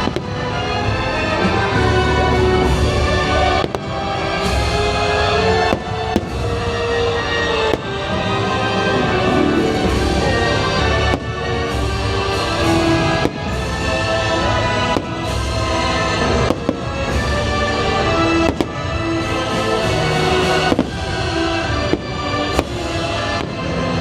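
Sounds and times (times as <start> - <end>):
firework bursts cracking: 0.0 - 24.0
spooky music over loudspeakers: 0.0 - 24.0.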